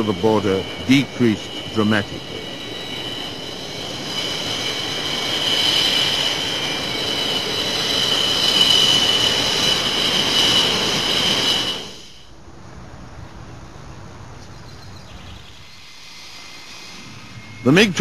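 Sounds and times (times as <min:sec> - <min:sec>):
jet engine turbine whine: 0:00.0 - 0:18.0.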